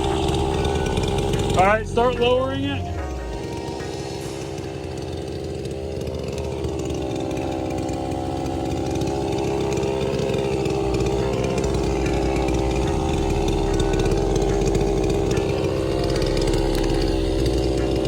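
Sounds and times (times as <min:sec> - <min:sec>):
deep low hum: 0:00.0 - 0:18.0
small petrol engine running: 0:00.0 - 0:18.0.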